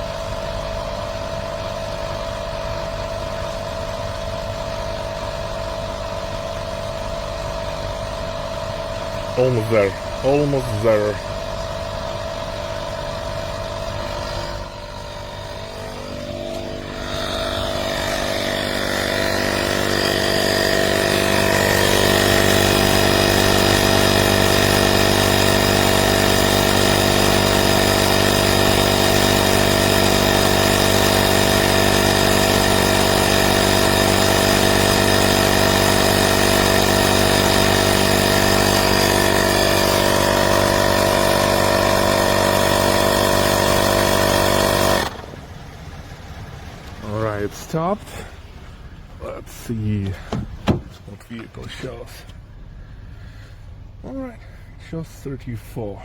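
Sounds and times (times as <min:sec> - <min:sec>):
tyre inflator compressor running: 0:00.0 - 0:55.0.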